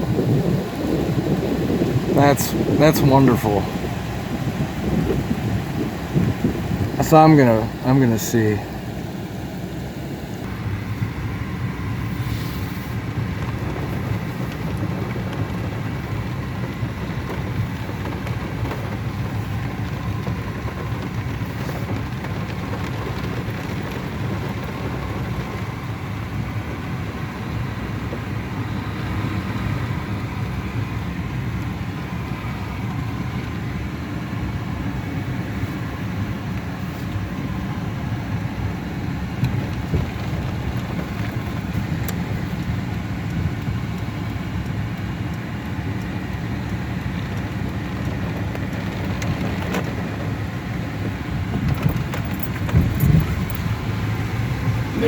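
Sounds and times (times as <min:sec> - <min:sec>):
car engine running: 0:00.0 - 0:55.0
heavy rain on car: 0:00.0 - 0:55.0.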